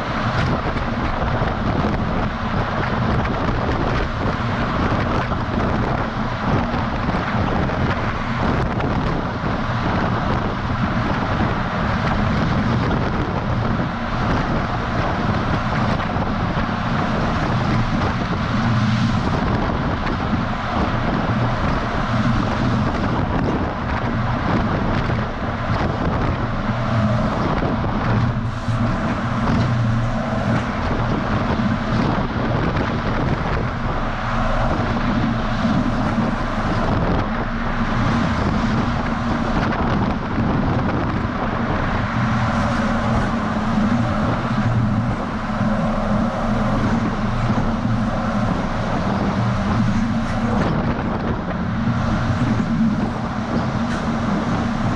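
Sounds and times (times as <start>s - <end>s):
truck engine and tyre drone: 0.0s - 54.9s
wind rushing over microphone: 0.0s - 54.9s.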